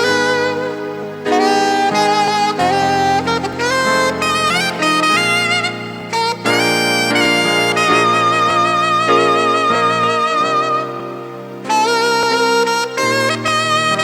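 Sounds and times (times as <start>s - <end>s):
saxophone melody with vibrato: 0.0s - 14.0s
sustained backing chords: 0.0s - 14.0s.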